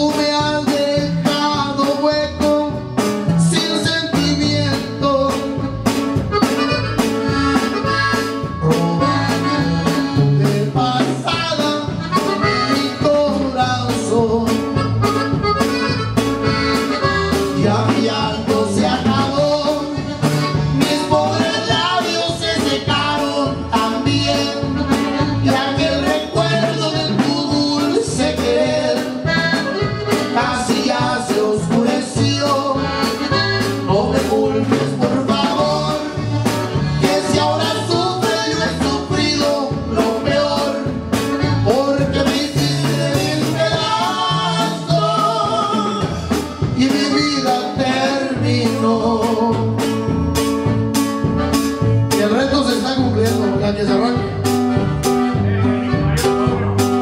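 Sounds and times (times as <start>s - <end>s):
button accordion: 0.0s - 57.0s
steady drum beat: 0.0s - 57.0s.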